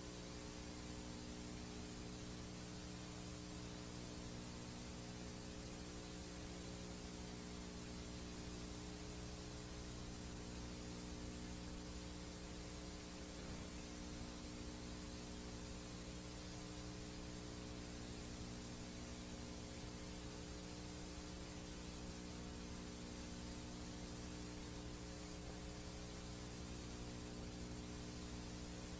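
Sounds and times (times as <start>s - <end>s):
tape playback hiss: 0.0s - 28.9s.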